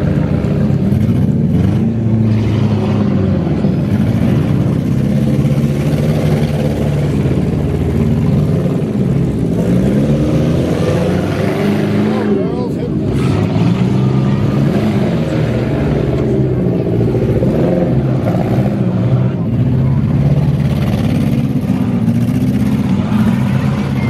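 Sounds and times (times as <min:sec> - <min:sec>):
car engines revving loudly: 0:00.0 - 0:24.0.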